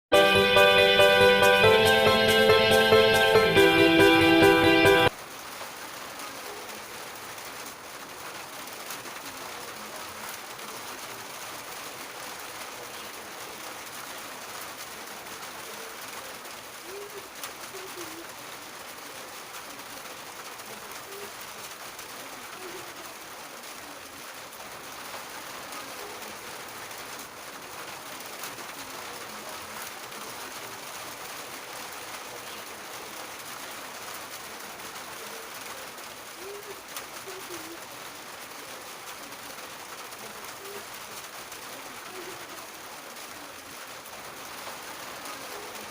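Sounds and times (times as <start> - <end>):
rain falling on a roof: 0.1 - 45.9.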